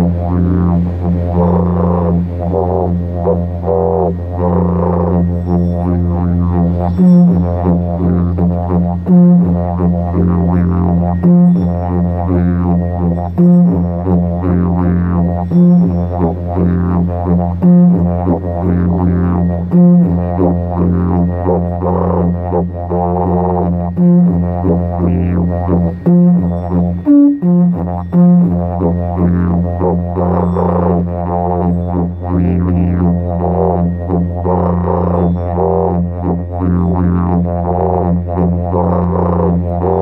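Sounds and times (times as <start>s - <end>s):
didgeridoo drone: 0.0s - 40.0s.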